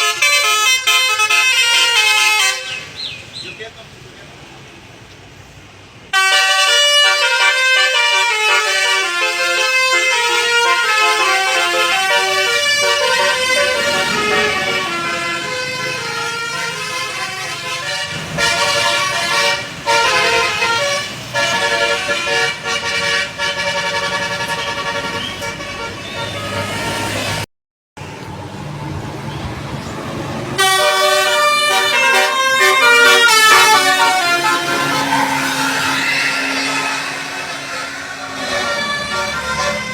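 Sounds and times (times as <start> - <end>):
bus musical horn melody: 0.0 - 3.0, 6.1 - 27.4, 30.6 - 39.9
vehicle engine humming: 0.0 - 39.9.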